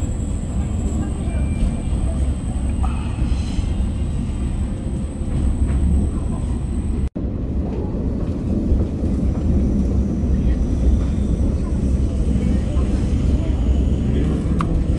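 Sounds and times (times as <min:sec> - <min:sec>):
train engine and wheels drone: 0:00.0 - 0:14.9.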